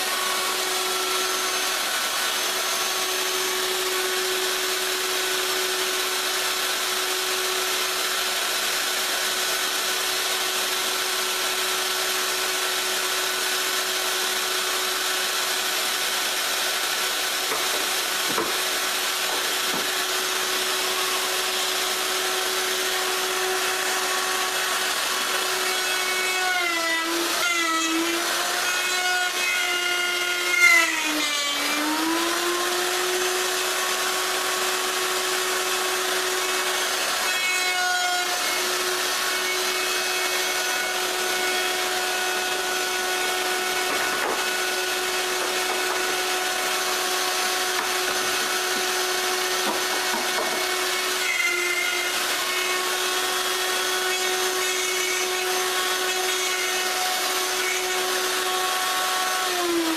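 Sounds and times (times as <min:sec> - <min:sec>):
router cutting wood: 0:00.0 - 0:59.9.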